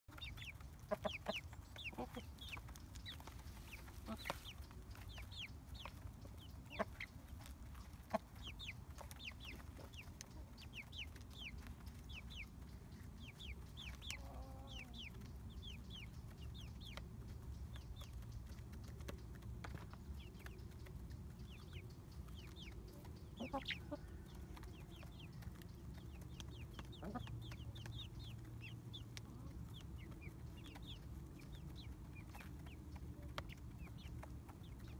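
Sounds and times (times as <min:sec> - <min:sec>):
beaks tapping feed dish: 0:00.1 - 0:34.9
chicken clucking: 0:00.1 - 0:34.9
chicks peeping: 0:00.1 - 0:34.9.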